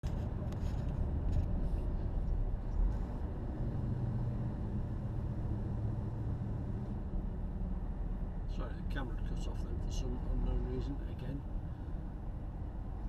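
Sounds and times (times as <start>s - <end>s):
road and engine rumble in cabin: 0.0s - 13.0s.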